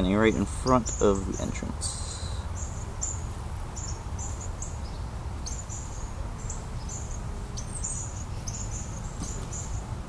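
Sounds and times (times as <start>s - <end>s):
honey bees humming: 0.0s - 10.0s.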